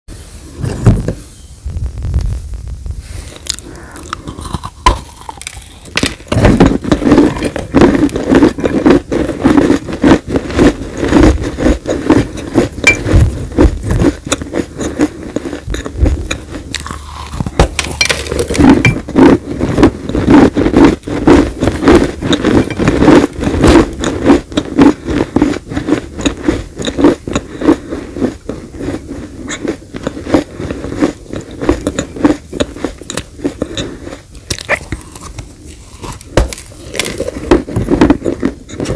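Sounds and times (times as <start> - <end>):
chewing crunchy cookies: 3.2 - 38.9.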